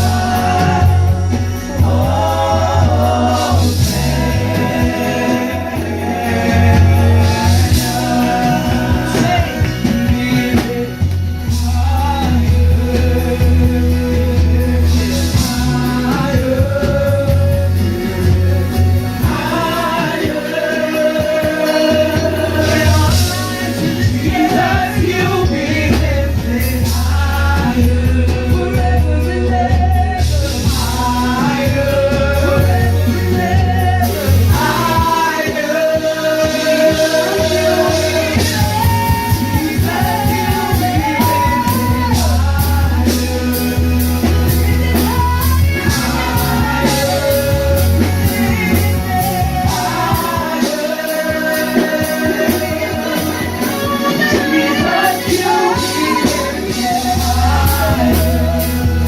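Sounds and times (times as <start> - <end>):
bass: 0.0 - 59.0
drum kit: 0.0 - 59.0
guitar: 0.0 - 59.0
people singing: 0.0 - 59.0.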